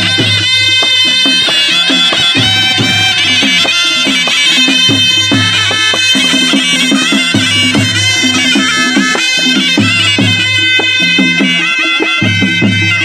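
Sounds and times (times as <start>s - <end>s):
double-reed pipes playing melody: 0.0s - 13.0s.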